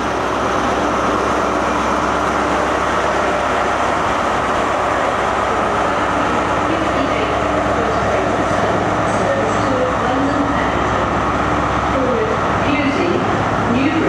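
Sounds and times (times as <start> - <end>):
diesel locomotive engine running hard: 0.0 - 14.0.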